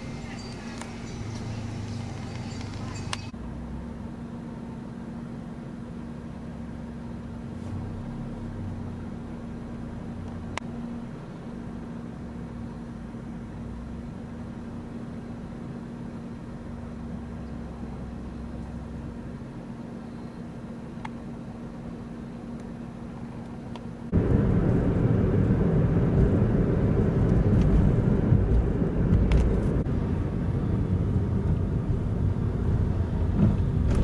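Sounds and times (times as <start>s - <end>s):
engine running with rumble: 0.0s - 34.0s.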